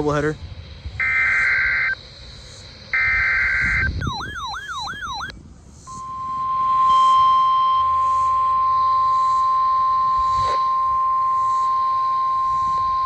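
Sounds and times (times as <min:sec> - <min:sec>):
radio hiss: 0:00.0 - 0:13.0
high steady alarm tone: 0:00.9 - 0:13.0.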